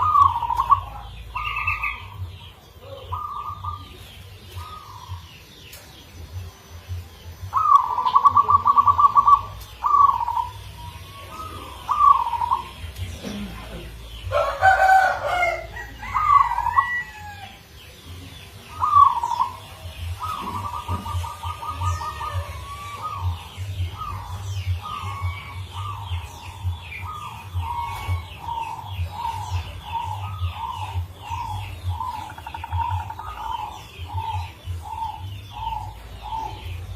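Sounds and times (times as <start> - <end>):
dove cooing: 0.0 - 5.4, 7.5 - 17.6, 18.7 - 36.9
small birds chirping: 0.0 - 36.9.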